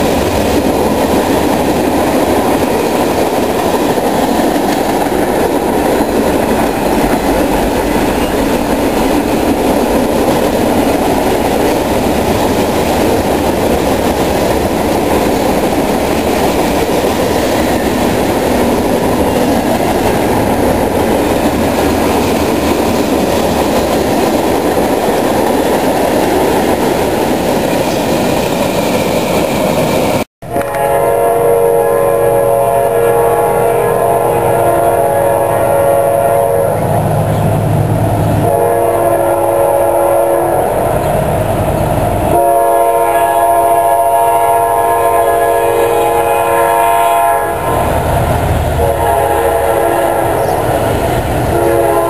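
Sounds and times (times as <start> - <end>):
freight train cars rolling past: 0.0 - 52.0.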